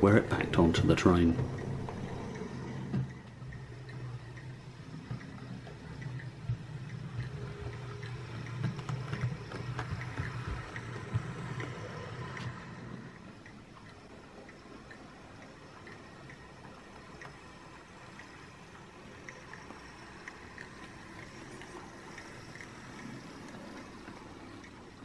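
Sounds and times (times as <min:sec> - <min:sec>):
model train motor hum: 0:00.0 - 0:25.0
wheels clicking on rails: 0:00.0 - 0:25.0.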